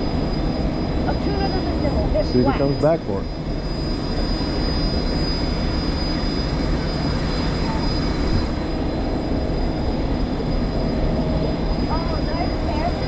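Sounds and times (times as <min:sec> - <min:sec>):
high whine: 0:00.0 - 0:13.0.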